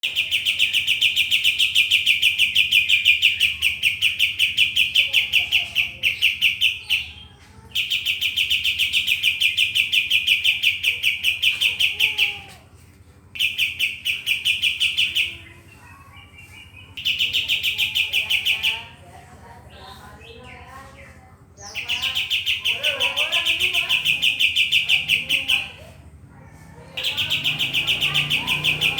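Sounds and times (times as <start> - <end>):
bird calling in rapid trills: 0.0 - 12.6, 13.4 - 19.1, 21.6 - 28.9.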